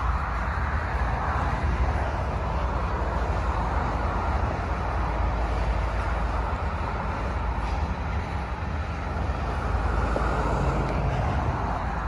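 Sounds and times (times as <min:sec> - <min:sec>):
freight cars rolling on rails: 0:00.0 - 0:12.0.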